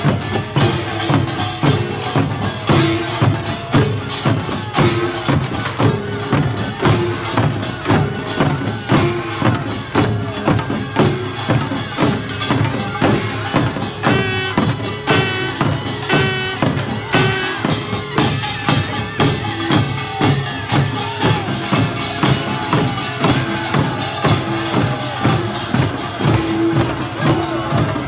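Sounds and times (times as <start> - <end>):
metal percussion ringing: 0.0 - 27.1
drums beating: 0.0 - 28.0.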